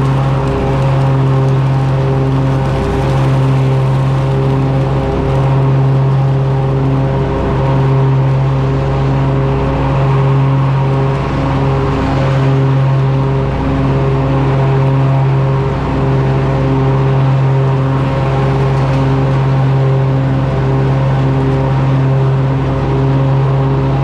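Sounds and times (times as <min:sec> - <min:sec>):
mower engine running steadily: 0:00.0 - 0:24.0.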